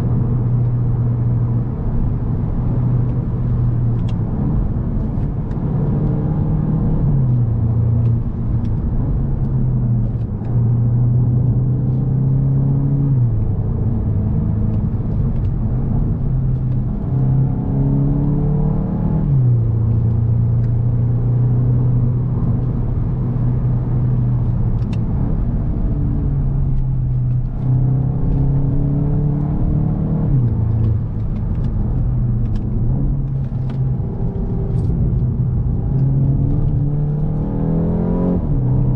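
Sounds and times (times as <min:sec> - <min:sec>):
car engine shifting gears: 0:00.0 - 0:38.9.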